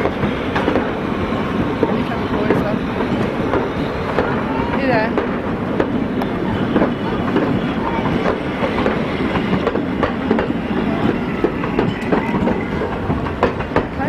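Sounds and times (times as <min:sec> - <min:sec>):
carriages rumbling on track: 0:00.0 - 0:14.0
train wheels clicking over rail joints: 0:00.0 - 0:14.0.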